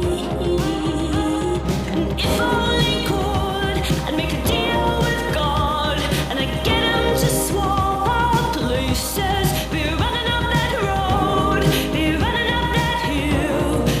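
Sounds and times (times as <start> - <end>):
pop song with singing: 0.0 - 14.0.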